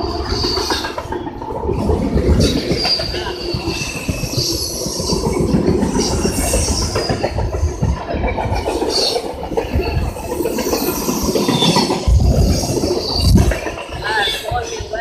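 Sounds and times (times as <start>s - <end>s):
steel wheels squealing: 0.0s - 1.0s, 2.2s - 15.0s
freight train rumble: 0.0s - 15.0s
wheels clacking over rails: 0.0s - 15.0s.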